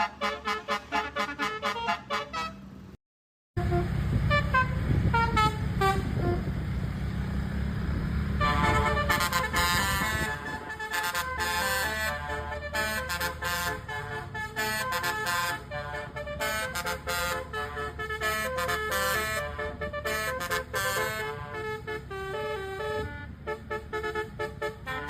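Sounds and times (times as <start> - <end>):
multi-trumpet bus horn tune: 0.0 - 2.9, 3.6 - 6.6, 8.3 - 25.0.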